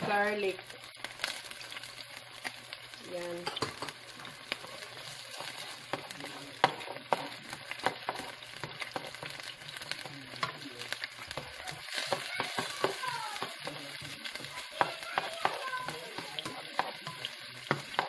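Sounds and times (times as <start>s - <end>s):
food sizzling in hot oil: 0.0s - 18.0s
spatula scraping and knocking pan: 3.4s - 18.0s.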